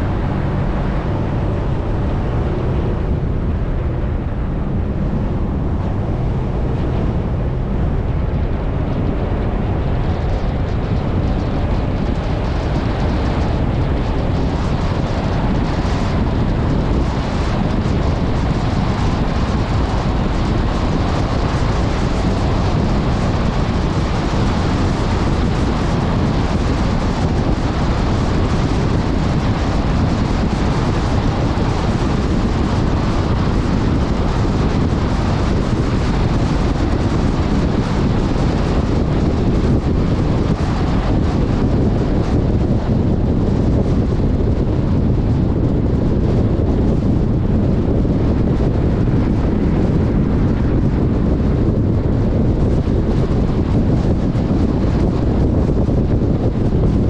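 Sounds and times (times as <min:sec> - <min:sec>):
vehicle engine and tyres rumbling: 0:00.0 - 0:57.0
wind buffeting on microphone: 0:00.0 - 0:57.0.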